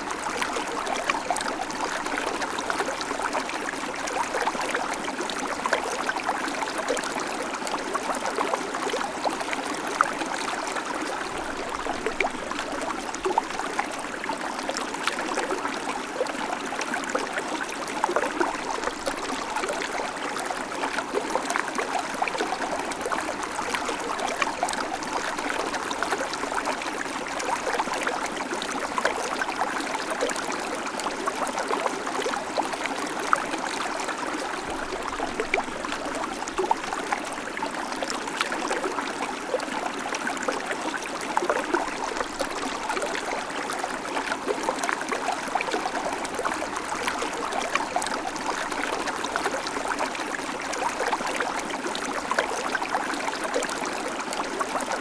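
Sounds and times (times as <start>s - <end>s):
creek babbling over stones: 0.0s - 55.0s.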